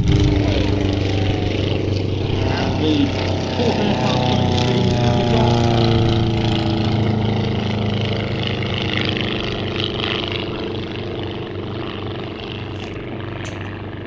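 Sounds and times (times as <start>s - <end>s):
light aircraft engine passing: 0.0s - 14.0s.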